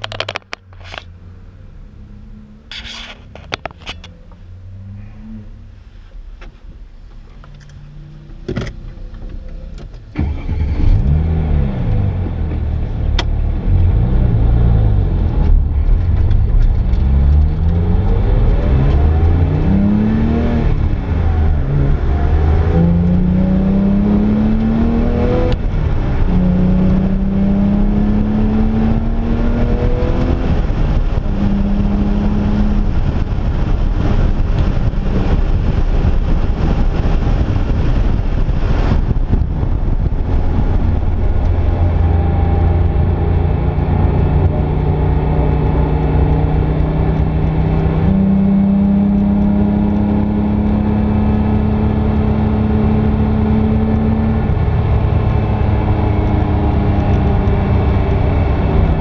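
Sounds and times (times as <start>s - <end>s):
road and wind noise: 0.0s - 59.0s
car engine accelerating: 7.2s - 59.0s.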